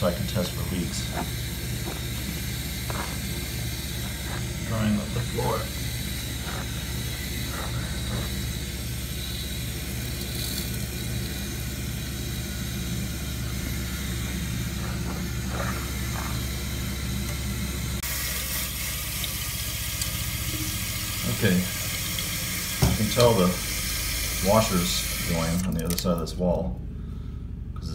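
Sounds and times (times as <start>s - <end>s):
steady hiss: 0.0s - 17.0s, 18.0s - 25.6s
washing machine drone: 0.0s - 27.9s.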